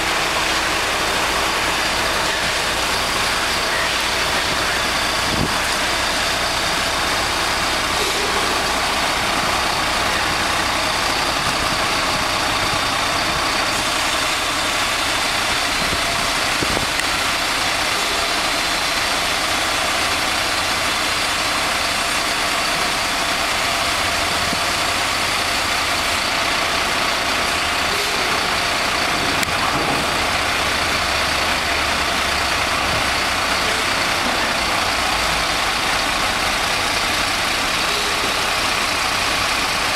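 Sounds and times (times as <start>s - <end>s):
crane engine running: 0.0s - 39.9s.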